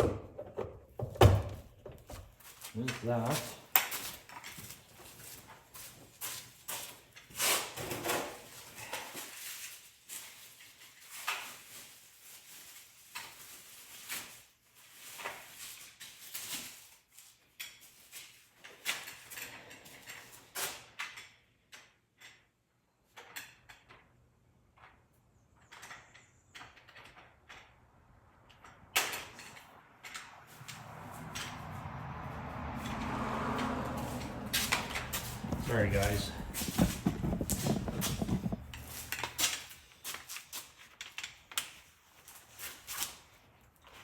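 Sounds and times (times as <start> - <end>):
parts and tools knocking and rustling: 0.0 - 11.9, 17.4 - 31.9, 32.8 - 42.6.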